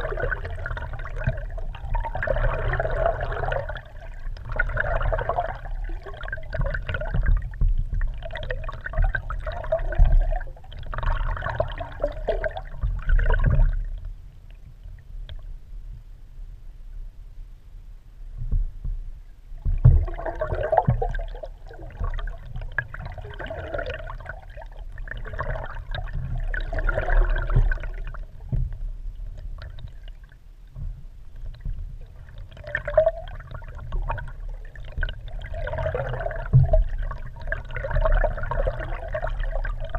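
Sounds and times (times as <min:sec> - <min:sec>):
muffled water gurgling and sloshing: 0:00.0 - 0:39.9
steady low rumble: 0:00.0 - 0:39.9.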